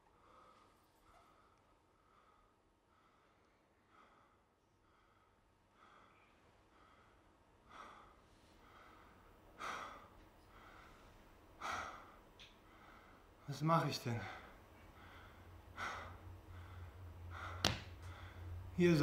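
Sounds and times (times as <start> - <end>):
man breathing softly: 0.0 - 13.5, 14.1 - 18.6.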